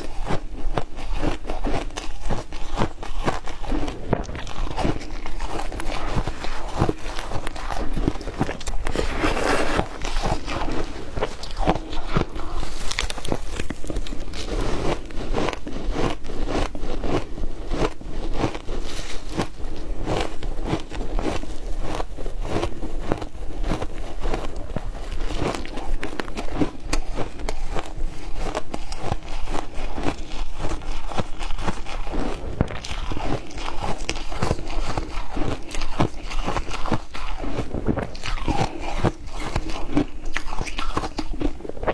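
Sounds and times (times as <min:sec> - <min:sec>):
ice crunched between teeth: 0:00.0 - 0:41.9.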